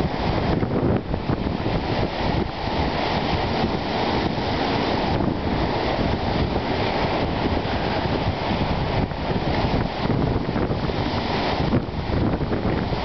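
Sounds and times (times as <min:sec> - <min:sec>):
waves breaking on rocky shore: 0:00.0 - 0:13.0
wind buffeting microphone: 0:00.0 - 0:13.0.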